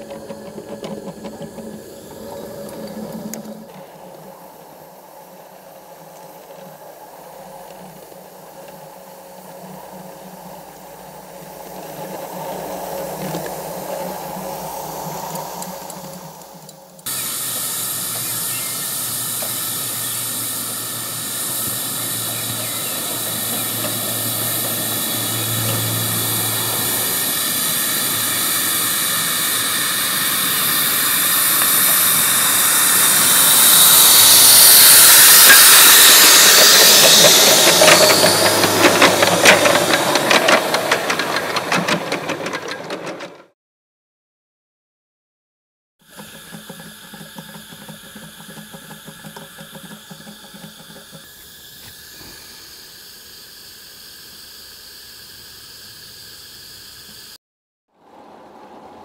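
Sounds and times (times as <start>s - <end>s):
steam hissing: 0.0s - 43.0s, 46.0s - 57.4s.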